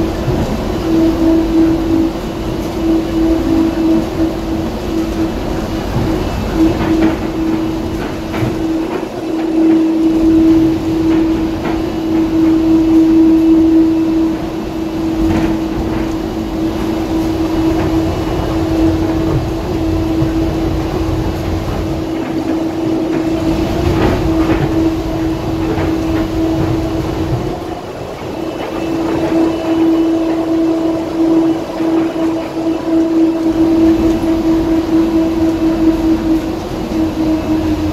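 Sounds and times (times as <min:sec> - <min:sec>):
rubber tyres rumbling: 0:00.0 - 0:37.9
train hum: 0:00.0 - 0:37.9.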